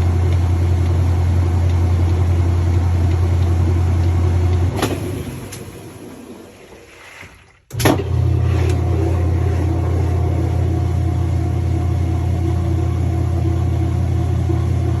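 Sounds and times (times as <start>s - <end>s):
washer motor clunk: 0.0s - 15.0s
washer motor humming: 0.0s - 15.0s.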